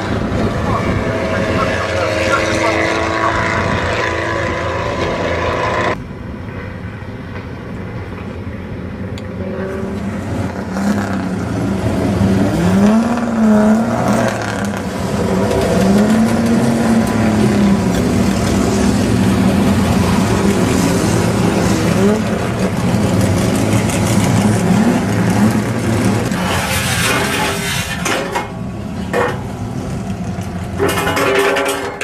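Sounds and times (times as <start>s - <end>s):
racing car engines running: 0.0s - 6.4s, 7.3s - 32.0s.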